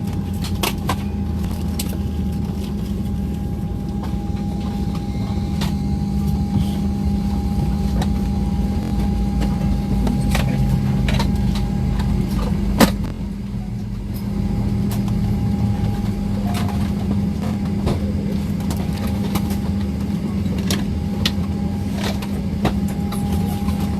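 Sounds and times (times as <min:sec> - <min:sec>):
engine and airflow drone: 0:00.0 - 0:23.9
thin constant whine: 0:00.0 - 0:23.9.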